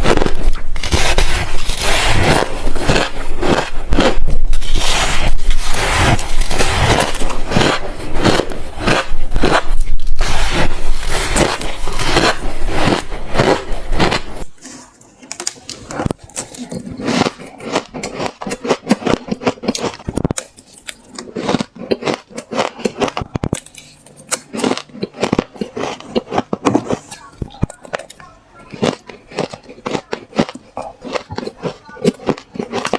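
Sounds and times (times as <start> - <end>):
ice being chewed: 0.0 - 32.9.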